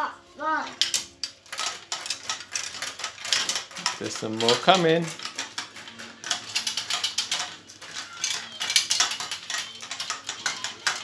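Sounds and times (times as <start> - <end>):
marbles rattling down plastic track: 0.7 - 11.0.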